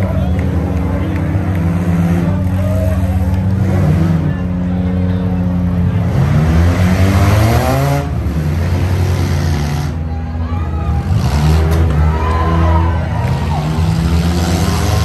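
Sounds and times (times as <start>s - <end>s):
engine revving up: 0.0s - 4.8s, 5.6s - 15.0s
car engines running hard: 0.0s - 15.0s.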